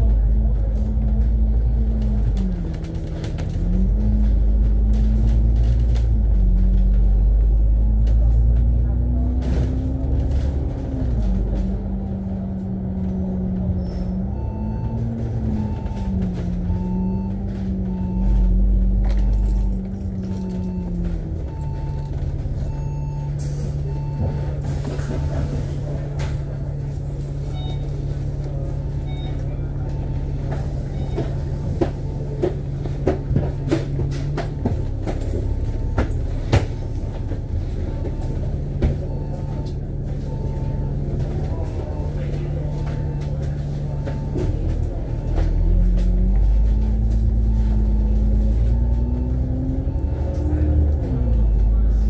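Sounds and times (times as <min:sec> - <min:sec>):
bus engine rumbling: 0:00.0 - 0:52.0.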